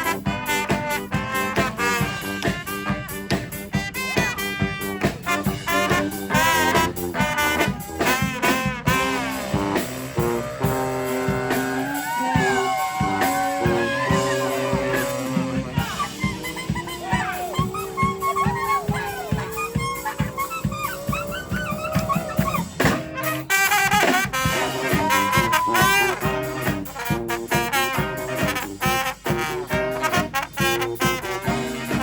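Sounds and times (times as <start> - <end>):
drums keeping a steady beat: 0.0 - 32.0
horns playing: 0.0 - 32.0.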